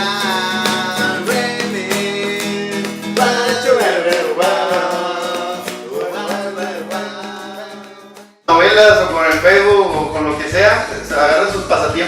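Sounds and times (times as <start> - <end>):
acoustic ska band playing: 0.0 - 12.0
strummed acoustic guitar: 0.0 - 12.0
wordless singing: 0.0 - 12.0.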